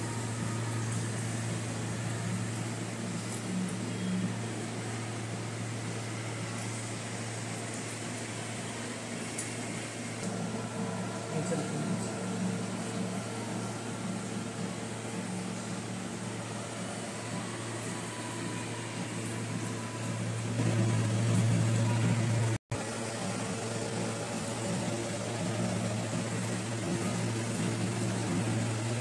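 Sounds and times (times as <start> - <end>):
ventilation hum: 0.0 - 29.0.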